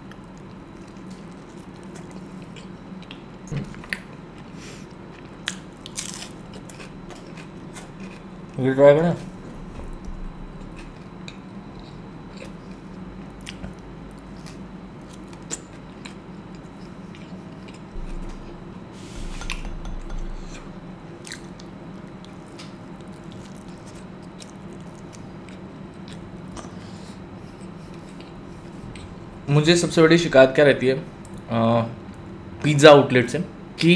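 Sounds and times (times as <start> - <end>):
chewing pizza: 0.0 - 18.6, 19.3 - 30.1.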